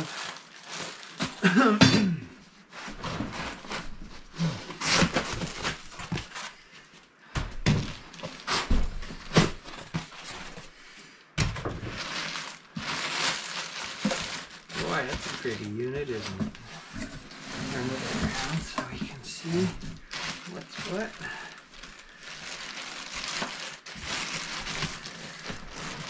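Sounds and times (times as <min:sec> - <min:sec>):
foam and plastic wrap rustling: 0:00.0 - 0:01.7, 0:02.3 - 0:10.9, 0:11.5 - 0:26.0.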